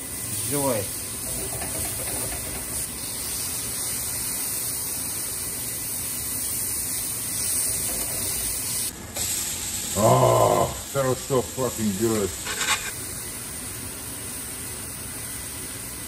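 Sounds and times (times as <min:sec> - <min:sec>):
patties sizzling on griddle: 0:00.0 - 0:16.0.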